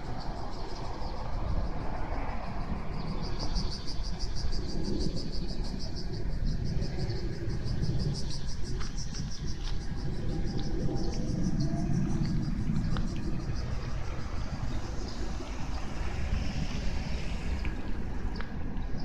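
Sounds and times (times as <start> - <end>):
cicadas buzzing: 0.0 - 19.0
road traffic rumble: 0.0 - 19.0.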